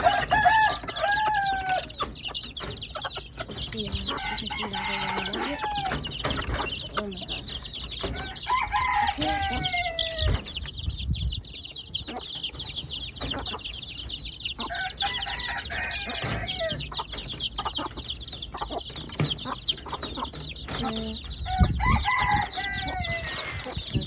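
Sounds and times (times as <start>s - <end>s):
chickens clucking: 0.0s - 24.0s
chicks cheeping: 0.0s - 24.0s.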